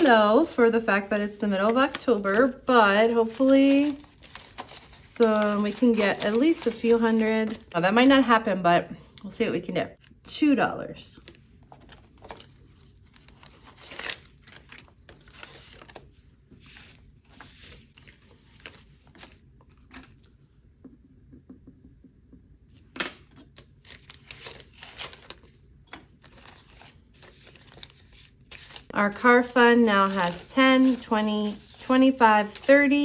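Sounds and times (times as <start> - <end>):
banknotes rustling: 0.0 - 8.2, 11.2 - 20.4, 23.4 - 33.0.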